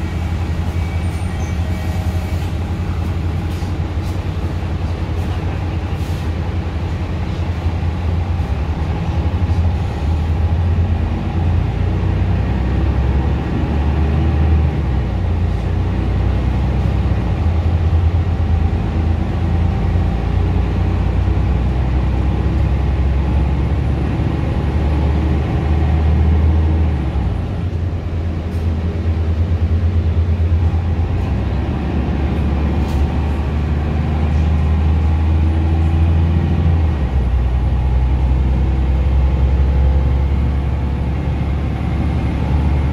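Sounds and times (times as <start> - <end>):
bus diesel engine drone: 0.0 - 42.9
road noise: 0.0 - 42.9.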